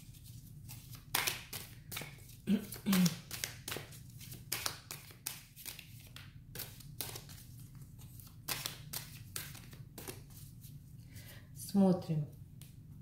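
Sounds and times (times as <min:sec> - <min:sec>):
cards being shuffled: 0:00.0 - 0:10.8.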